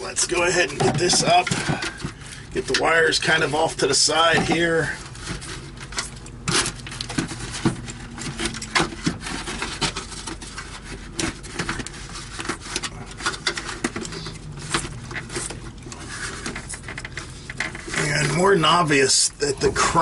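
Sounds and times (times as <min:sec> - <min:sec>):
plastic housing knocking and rubbing: 0:00.2 - 0:18.7.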